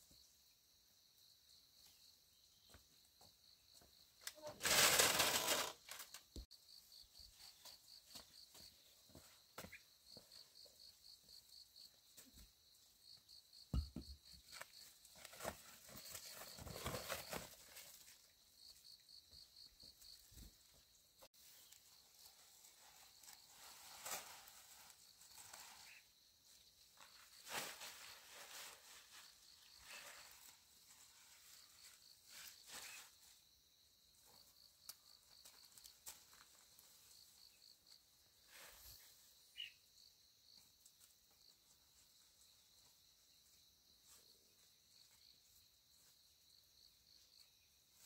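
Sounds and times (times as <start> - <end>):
insect chirping trills: 0.0 - 48.0.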